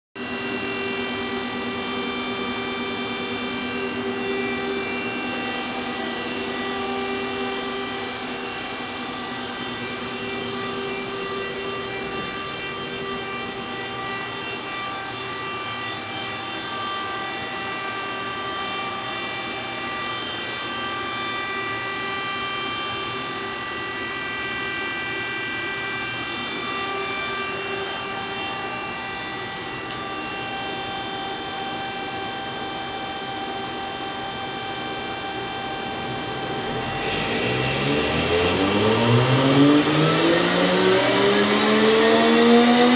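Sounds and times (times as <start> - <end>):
high whining tones: 0.2 - 42.9
machinery hum: 0.2 - 42.9.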